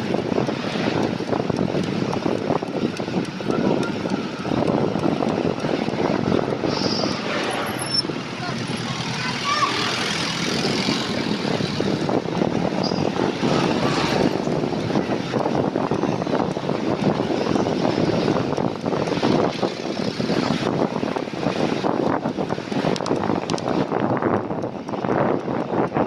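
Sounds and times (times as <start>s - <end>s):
road traffic: 0.0s - 26.0s
wind rushing on microphone: 0.0s - 26.0s.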